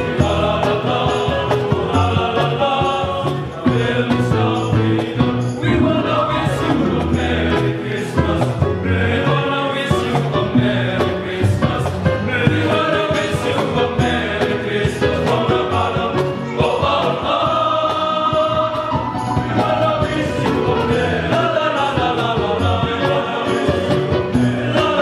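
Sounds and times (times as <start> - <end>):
male choir singing: 0.0 - 25.0.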